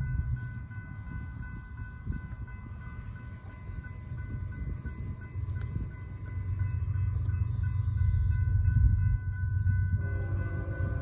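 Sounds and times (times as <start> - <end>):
crossing warning bell ringing: 0.0 - 11.0.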